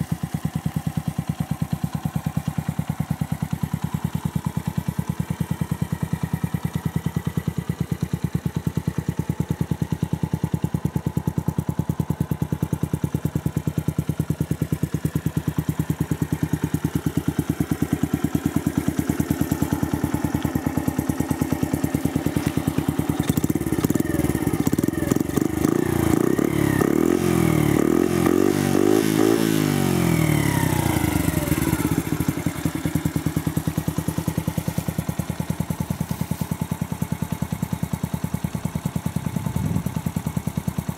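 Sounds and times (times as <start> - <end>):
minibike engine idling and revving: 0.0 - 40.9.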